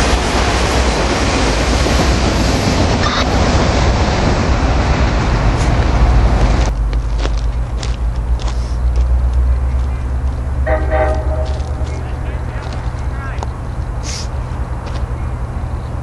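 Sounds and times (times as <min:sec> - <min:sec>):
freight train rolling on rails: 0:00.0 - 0:16.0.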